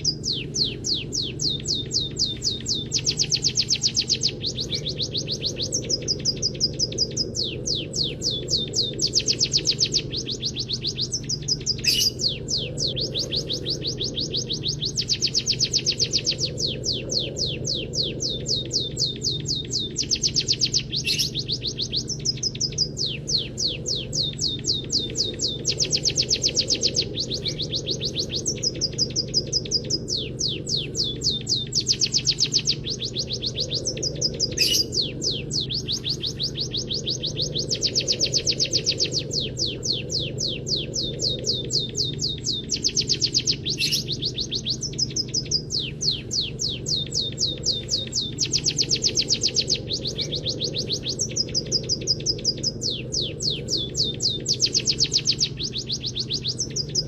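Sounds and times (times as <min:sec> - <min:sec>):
finches singing high chirps: 0:00.0 - 0:57.0
steady low hum: 0:00.0 - 0:57.0.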